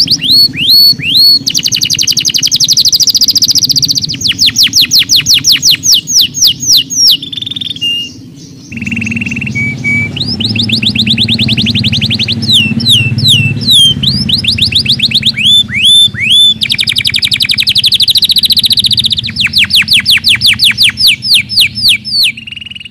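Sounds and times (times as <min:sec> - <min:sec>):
canary singing trills: 0:00.0 - 0:22.9.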